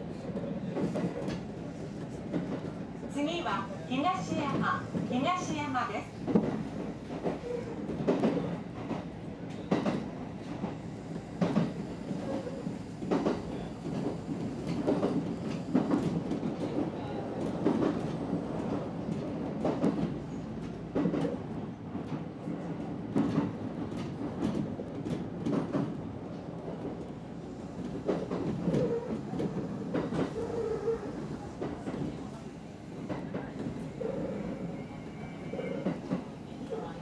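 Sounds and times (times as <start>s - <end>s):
train low rumble: 0.0s - 37.0s.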